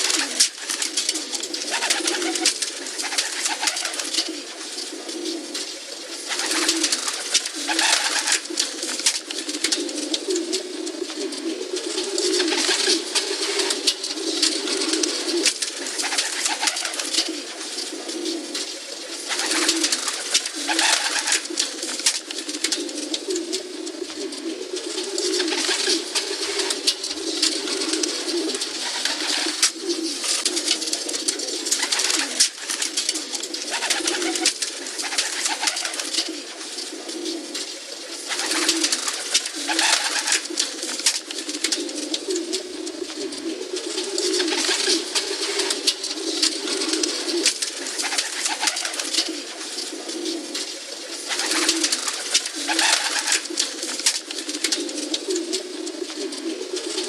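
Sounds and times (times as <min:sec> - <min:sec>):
pigeons cooing: 0:00.0 - 0:57.0
rustles and clicks: 0:00.0 - 0:57.0.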